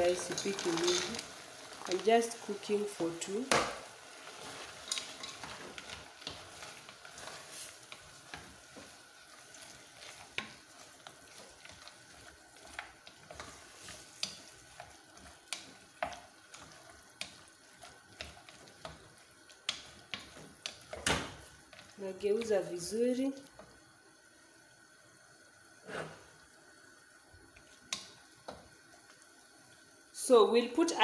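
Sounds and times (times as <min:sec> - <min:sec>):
wooden spoon stirring in a pot: 0:00.0 - 0:24.1, 0:25.8 - 0:30.2
sauce sizzling: 0:00.0 - 0:31.0.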